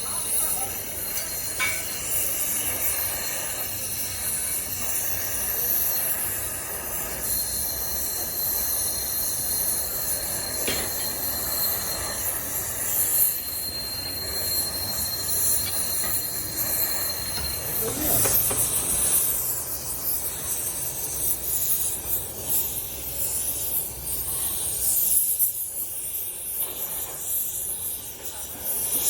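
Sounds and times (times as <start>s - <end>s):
thin high whine: 0.0s - 25.4s.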